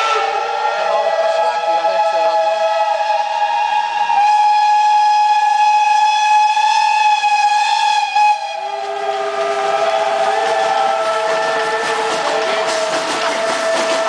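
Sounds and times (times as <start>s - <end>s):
steam locomotive whistles: 0.0s - 14.0s.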